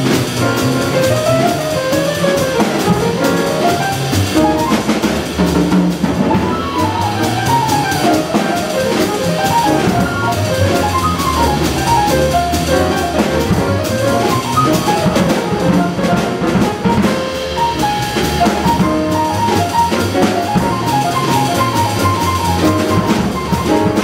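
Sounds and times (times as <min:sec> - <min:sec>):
drum kit cymbals: 0:00.0 - 0:24.0
grand piano solo: 0:00.0 - 0:24.0
walking upright bass: 0:00.0 - 0:24.0.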